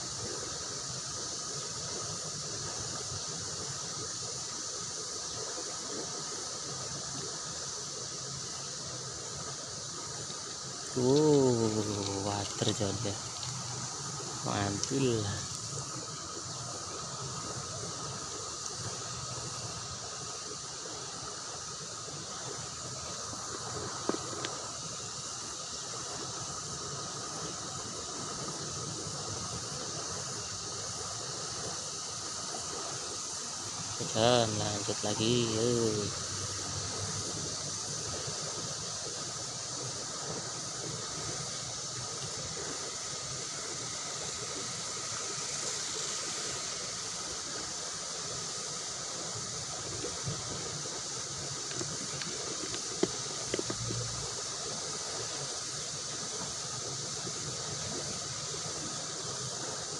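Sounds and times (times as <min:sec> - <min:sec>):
river current rushing: 0:00.0 - 0:59.9.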